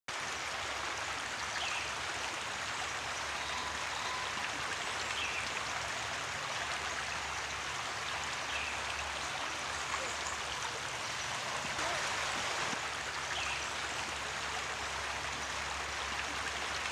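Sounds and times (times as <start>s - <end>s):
river rushing over rocks: 0.1s - 16.9s.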